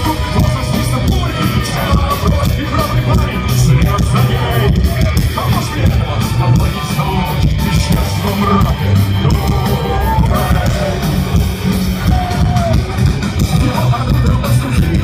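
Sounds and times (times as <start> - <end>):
person singing: 0.0 - 12.8
live rock band playing: 0.0 - 15.0.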